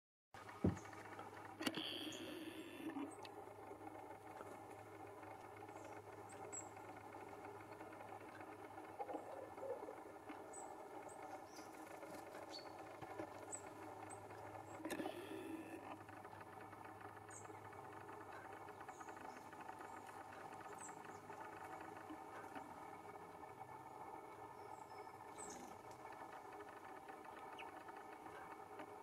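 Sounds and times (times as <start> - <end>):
steady low hum: 0.4 - 29.0.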